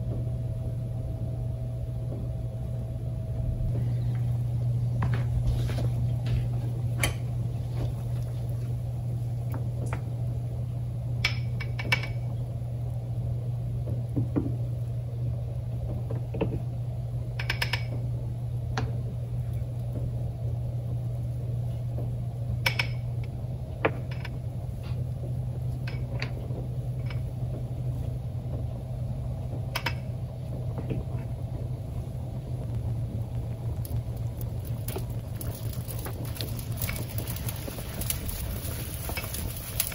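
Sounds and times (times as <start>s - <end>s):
pot boiling rumble: 0.0s - 39.9s.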